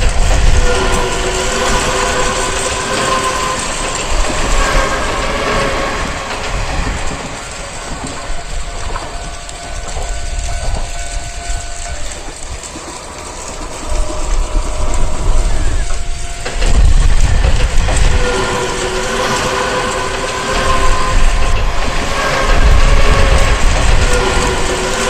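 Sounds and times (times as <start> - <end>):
clatter of rolling train wheels: 0.0 - 25.0
train horn: 0.0 - 25.0.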